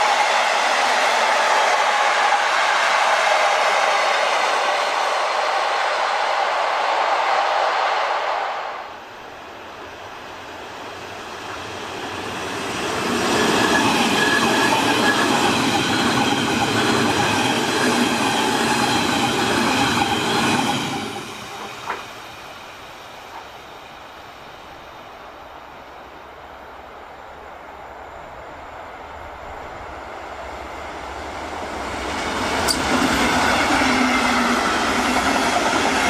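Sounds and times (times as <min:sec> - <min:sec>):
train passing on rails: 0:00.0 - 0:36.0.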